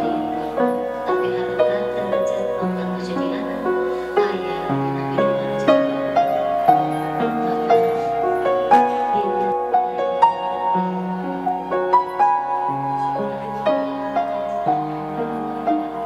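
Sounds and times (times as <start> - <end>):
slow instrumental melody: 0.0 - 16.0.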